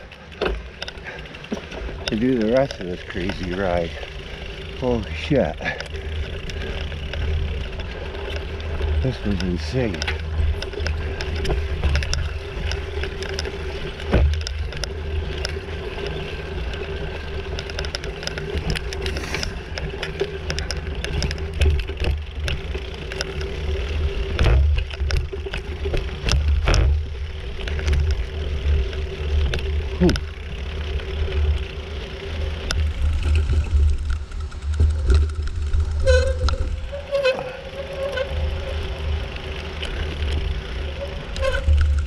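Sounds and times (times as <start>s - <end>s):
bicycle rattling over bumps: 0.0s - 42.0s.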